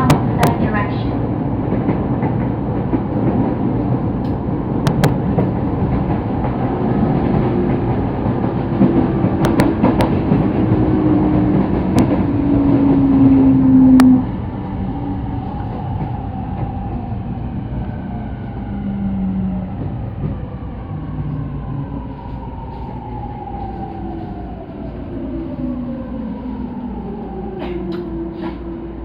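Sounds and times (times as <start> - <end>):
train running noise: 0.0 - 29.0.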